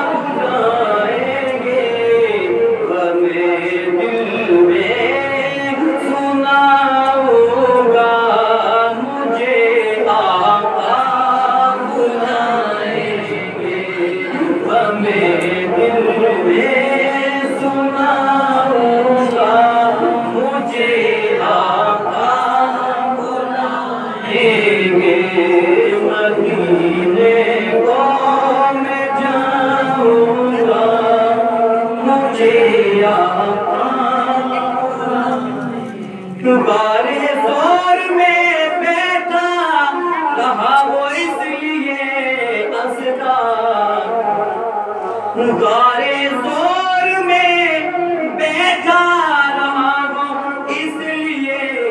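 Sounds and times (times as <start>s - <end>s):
man singing into a microphone: 0.0s - 51.9s.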